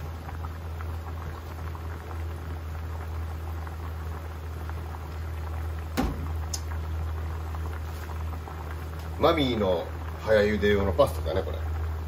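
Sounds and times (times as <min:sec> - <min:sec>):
steady low hum: 0:00.0 - 0:12.0
water boiling in a pan: 0:00.0 - 0:12.0.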